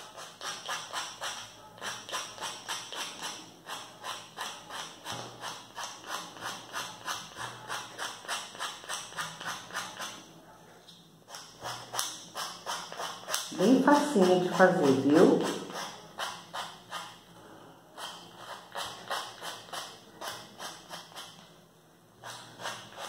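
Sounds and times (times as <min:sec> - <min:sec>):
nail file rubbing on paper: 0:00.0 - 0:10.3, 0:11.3 - 0:17.2, 0:17.9 - 0:21.5, 0:22.2 - 0:23.0.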